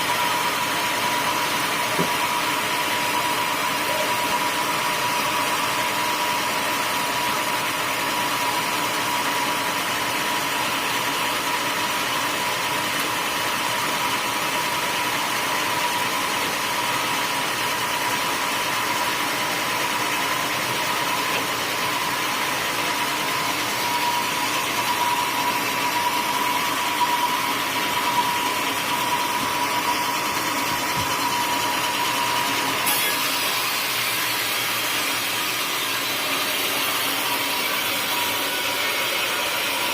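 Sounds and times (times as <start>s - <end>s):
sawmill machinery running: 0.0s - 39.9s
thin steady whine: 0.0s - 39.9s.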